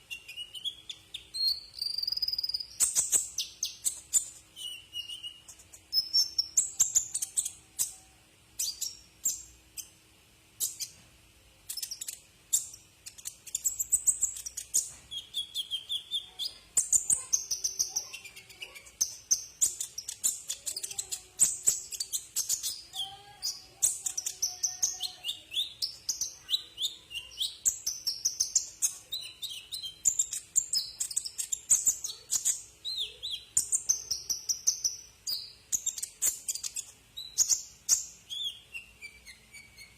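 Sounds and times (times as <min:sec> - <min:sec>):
bird singing rapid chirps and trills: 0:00.0 - 0:10.0, 0:11.7 - 0:39.9.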